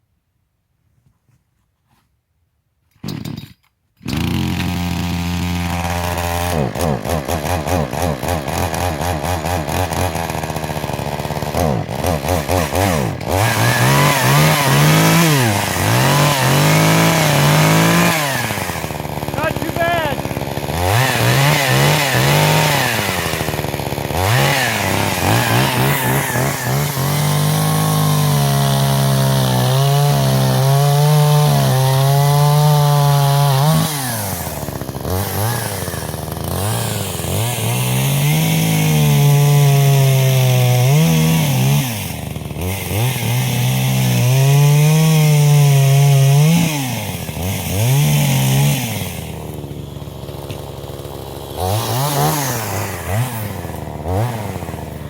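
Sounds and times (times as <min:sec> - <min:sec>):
chainsaw cutting wood: 0:03.0 - 0:55.0.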